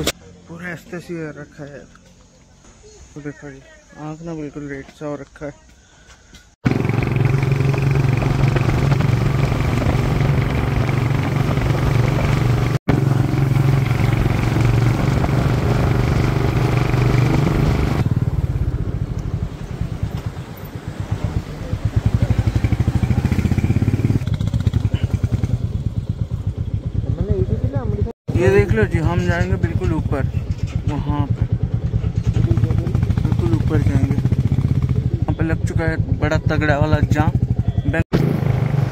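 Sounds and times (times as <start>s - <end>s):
motorcycle engine running: 6.6s - 38.9s.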